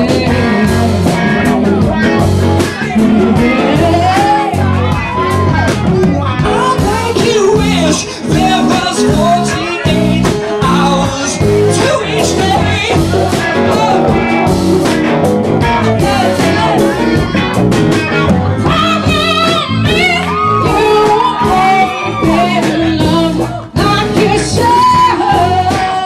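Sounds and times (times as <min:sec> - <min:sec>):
guitar and band accompaniment: 0:00.0 - 0:26.0
person singing: 0:00.0 - 0:26.0.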